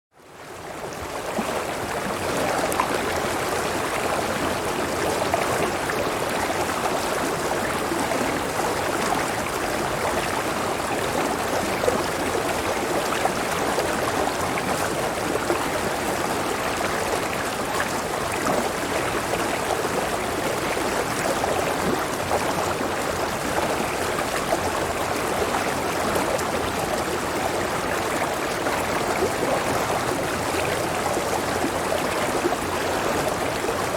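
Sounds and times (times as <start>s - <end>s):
stream water flowing: 0.2s - 33.9s.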